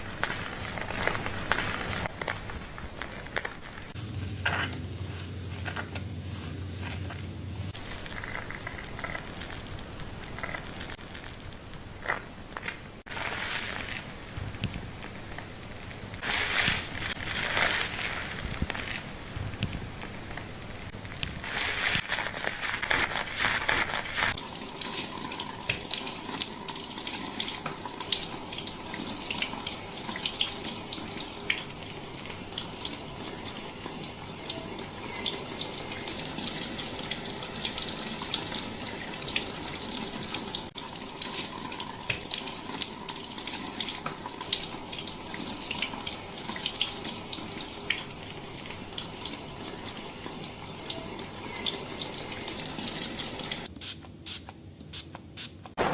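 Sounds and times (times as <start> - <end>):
water running over hair: 0.0 - 2.2, 3.0 - 53.7.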